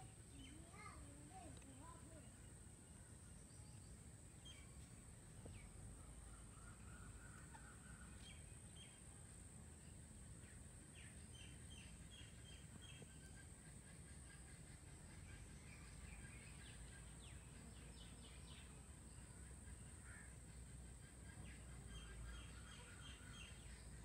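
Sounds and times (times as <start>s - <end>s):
faint bird chirps: 0.0s - 24.0s
steady high-pitched hiss: 0.0s - 24.0s.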